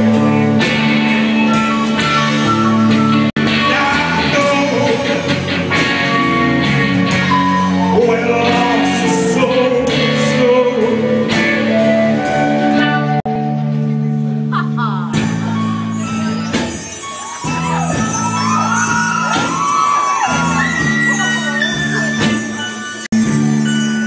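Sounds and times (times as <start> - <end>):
electric guitars: 0.0 - 23.9
rock band playing: 0.0 - 24.0.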